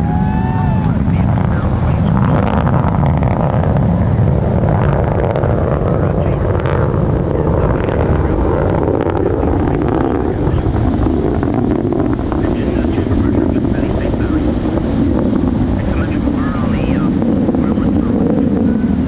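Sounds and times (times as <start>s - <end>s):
distant rocket launch rumble: 0.0s - 19.0s.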